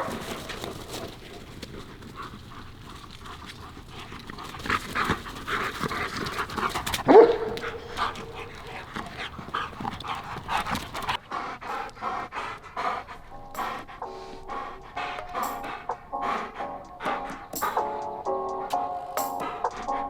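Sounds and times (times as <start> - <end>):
dog panting hard: 0.0 - 18.6, 19.3 - 20.0.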